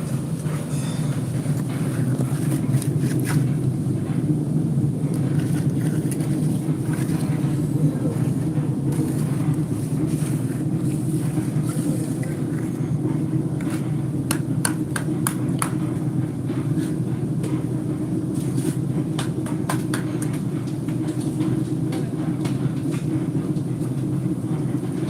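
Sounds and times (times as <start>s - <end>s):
concrete mixer engine running: 0.0s - 25.0s.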